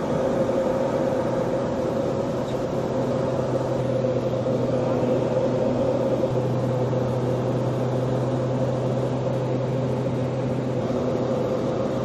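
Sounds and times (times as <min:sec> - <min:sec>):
turboprop engines droning in cabin: 0:00.0 - 0:12.0.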